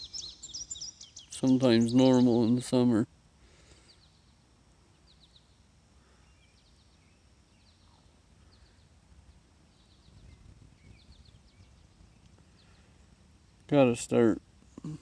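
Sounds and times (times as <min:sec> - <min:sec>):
low outdoor rumble: 0:00.0 - 0:15.0
songbird chirps: 0:00.0 - 0:15.0.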